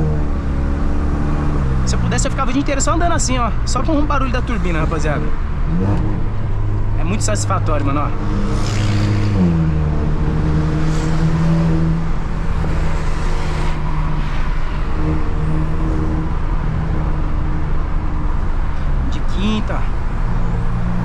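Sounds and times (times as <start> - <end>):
car engine under way: 0.0 - 21.0
road noise: 0.0 - 21.0.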